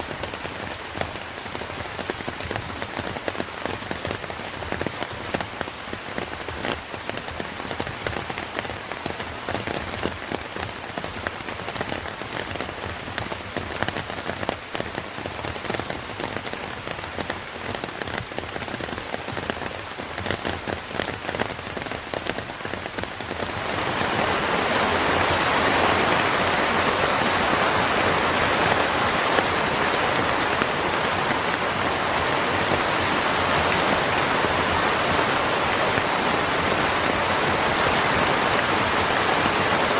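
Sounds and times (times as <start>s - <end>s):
rain: 0.0s - 39.9s.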